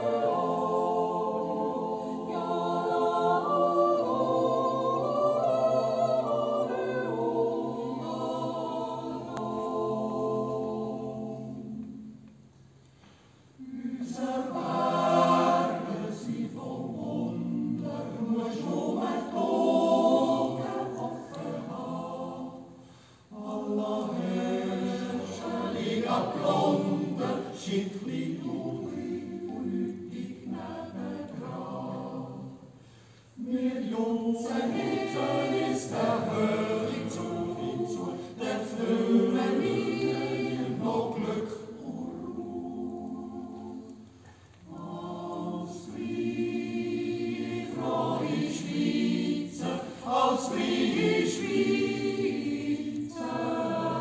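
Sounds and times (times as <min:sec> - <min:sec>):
choir yodeling a cappella: 0:00.0 - 0:12.2, 0:13.5 - 0:54.0.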